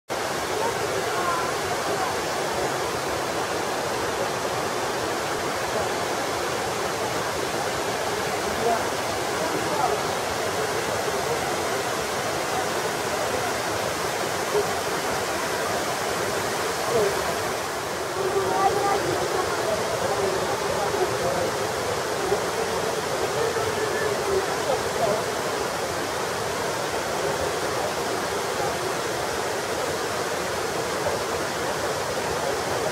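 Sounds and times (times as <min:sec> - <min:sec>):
waterfall roaring: 0:00.1 - 0:32.9.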